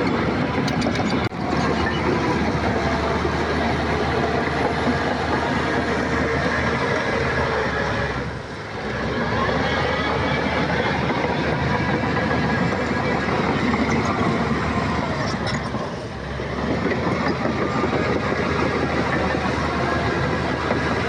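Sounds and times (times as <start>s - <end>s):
heavy diesel machinery engine: 0.0s - 21.0s.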